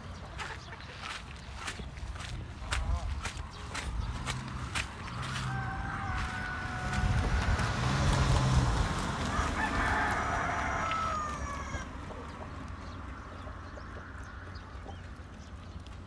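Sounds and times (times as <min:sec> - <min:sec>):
chickens clucking: 0:00.0 - 0:08.0, 0:09.3 - 0:16.0.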